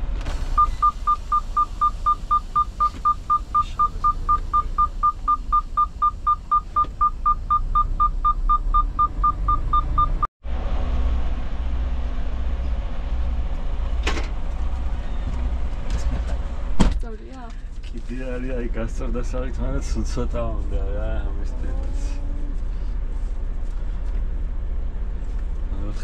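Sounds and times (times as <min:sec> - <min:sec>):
diesel engine rumble: 0:00.0 - 0:26.0.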